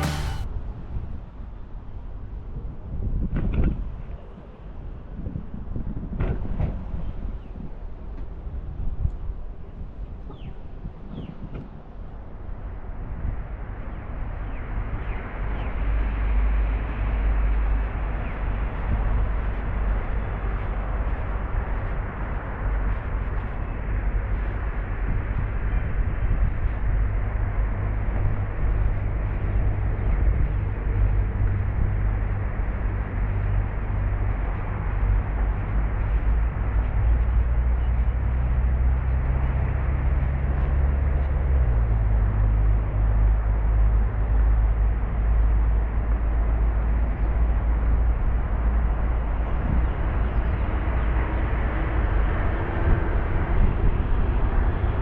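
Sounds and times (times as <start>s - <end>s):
low engine rumble: 0.0s - 2.6s, 12.0s - 55.0s.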